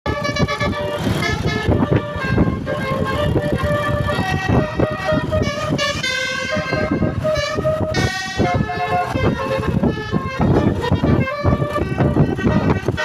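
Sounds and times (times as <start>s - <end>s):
multi-tone bus air horn tune: 0.1s - 13.0s.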